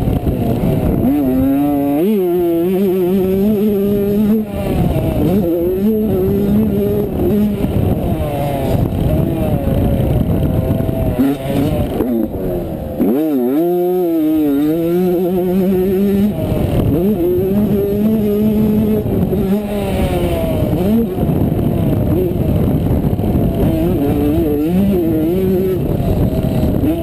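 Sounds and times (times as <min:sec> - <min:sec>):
two-stroke engine revving hard: 0:00.0 - 0:27.0
wind rushing on microphone: 0:00.0 - 0:27.0.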